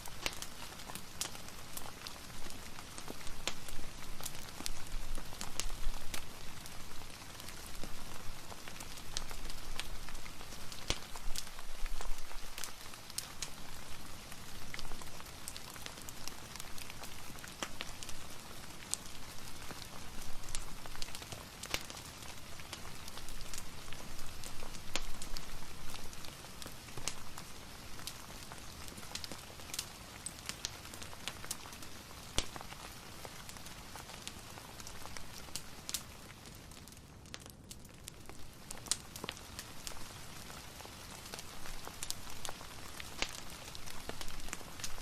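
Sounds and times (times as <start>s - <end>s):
rain pattering: 0.0s - 45.0s
wood fire crackling: 0.0s - 45.0s.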